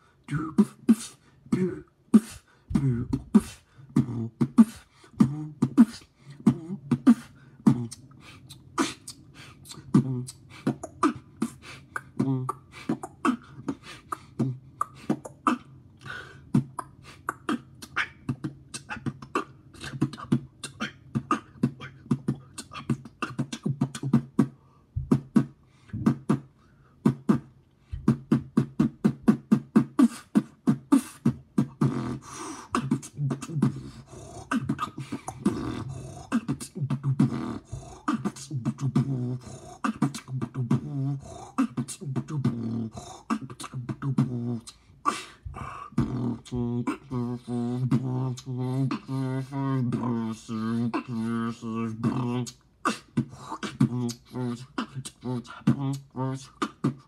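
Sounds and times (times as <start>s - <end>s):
beatboxing: 0.0s - 57.0s.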